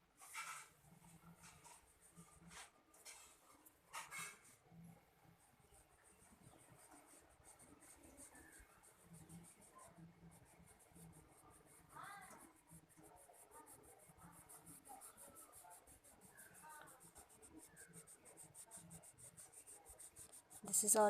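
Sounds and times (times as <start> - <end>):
colouring strokes scratching paper: 0.2 - 21.0.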